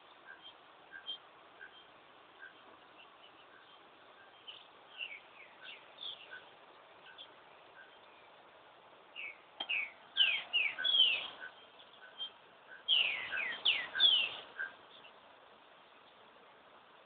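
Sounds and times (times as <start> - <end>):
bird song with whistled notes: 0.0 - 8.4, 9.1 - 15.2.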